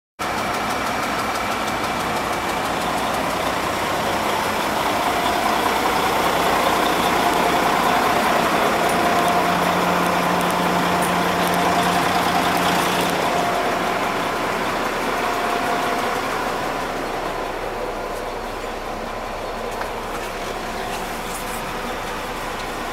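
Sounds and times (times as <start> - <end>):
diesel engine idling: 0.2 - 22.9.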